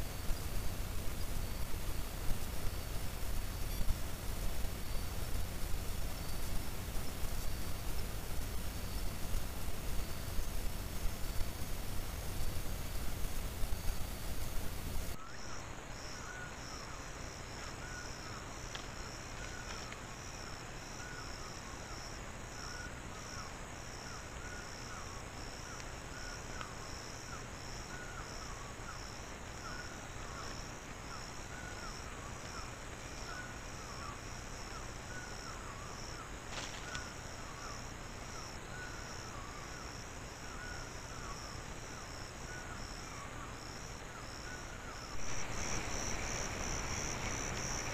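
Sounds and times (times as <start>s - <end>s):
high pulsing insect trill: 0.0s - 47.9s
lower insect chirp: 0.0s - 47.9s.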